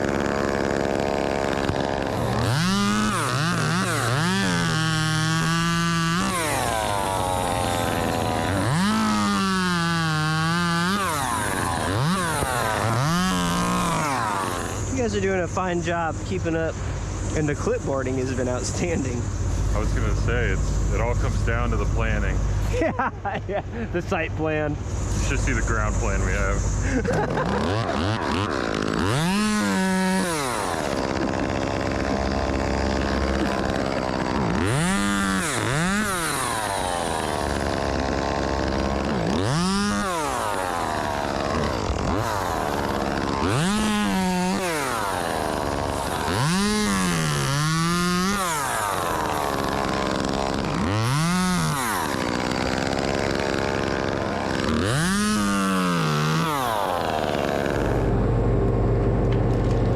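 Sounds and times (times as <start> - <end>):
low engine hum: 0.0 - 51.7, 57.4 - 59.9
chainsaw revving: 0.0 - 59.9.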